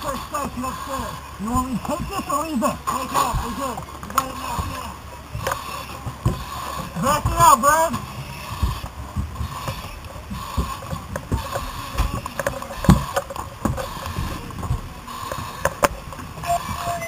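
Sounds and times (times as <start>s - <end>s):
gear knocking and scraping: 0.0s - 17.0s.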